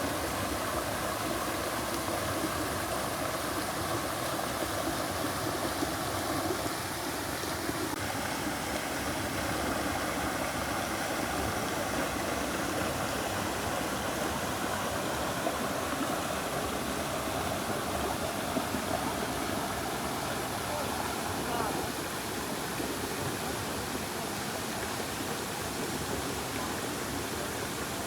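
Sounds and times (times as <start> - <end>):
water splashing over waterfall: 0.0 - 28.0.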